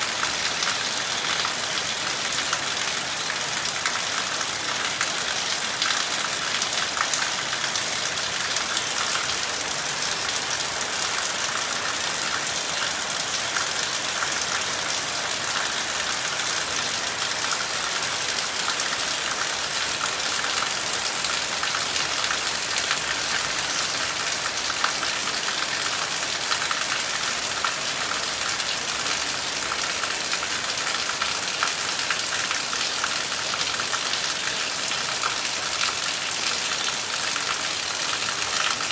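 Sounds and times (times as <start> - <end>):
heavy rain on trees: 0.0 - 38.9.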